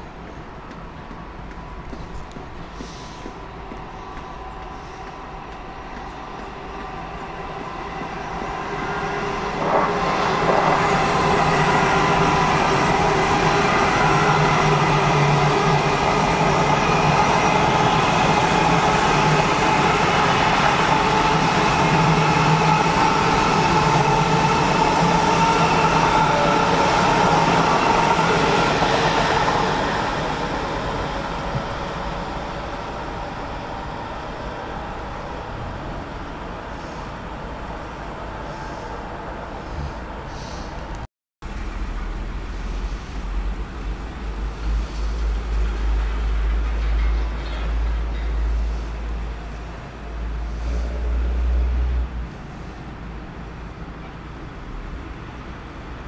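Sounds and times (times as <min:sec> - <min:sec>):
high-speed train passing: 0:00.0 - 0:56.0.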